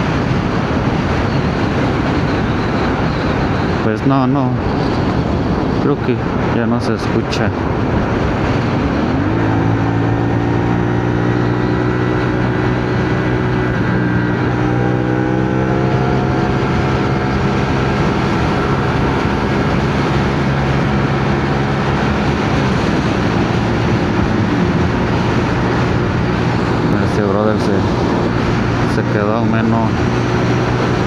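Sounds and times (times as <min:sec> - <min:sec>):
motorcycle engine cruising: 0:00.0 - 0:31.0
rushing wind: 0:00.0 - 0:31.0.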